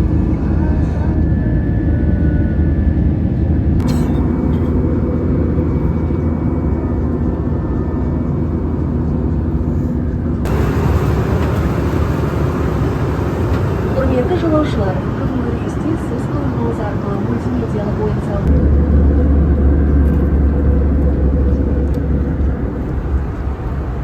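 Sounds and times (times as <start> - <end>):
moving vehicle rumbling: 0.0 - 24.0.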